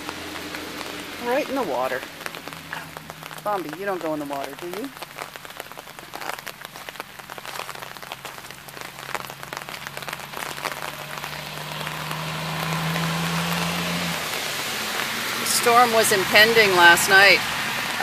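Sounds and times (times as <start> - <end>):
drops ticking close by: 0.0 - 18.0
rain falling: 0.0 - 18.0.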